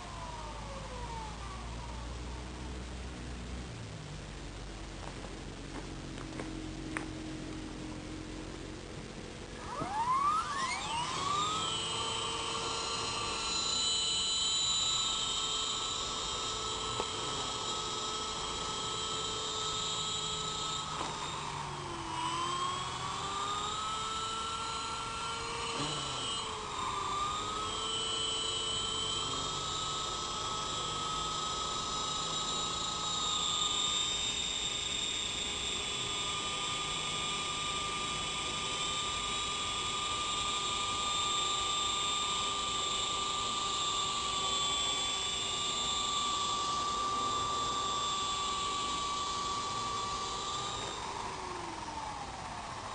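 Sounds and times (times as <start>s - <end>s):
rotor humming: 0.0s - 52.9s
helicopter motor and gear whine: 4.4s - 52.9s.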